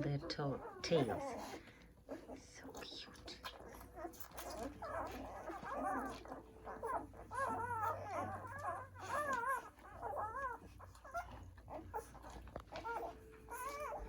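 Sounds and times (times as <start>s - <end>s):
puppies squeaking and whimpering: 0.0s - 14.0s.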